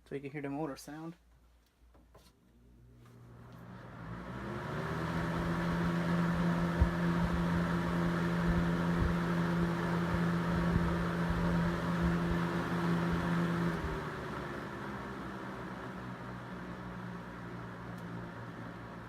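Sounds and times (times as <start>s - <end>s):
electric fan motor humming: 2.6s - 19.0s.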